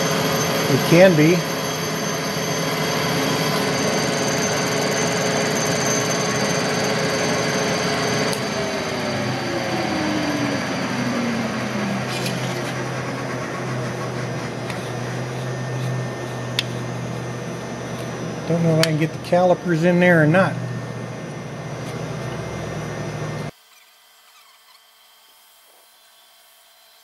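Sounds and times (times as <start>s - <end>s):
spindle whine slowing down: 0.0s - 23.6s
milling machine cutting: 0.0s - 27.0s.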